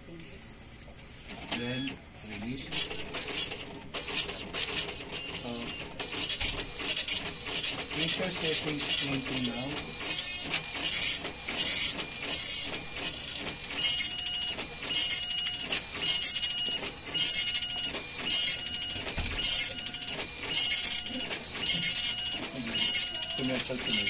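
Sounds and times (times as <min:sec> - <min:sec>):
dot matrix printer head buzzing: 0:02.8 - 0:24.0
printer rattle: 0:02.8 - 0:24.0.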